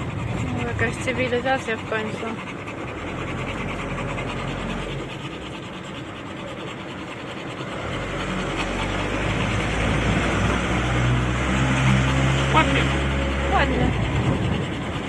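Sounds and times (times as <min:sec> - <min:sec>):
road and engine noise: 0:00.0 - 0:15.0.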